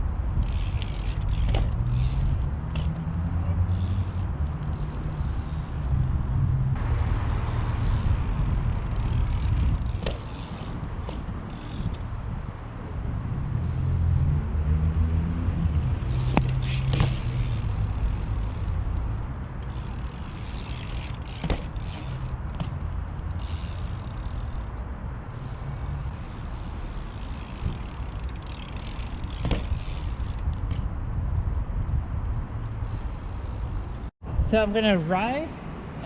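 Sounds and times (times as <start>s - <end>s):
motor vehicle passing: 0.0s - 34.1s
low outdoor rumble: 0.0s - 36.0s.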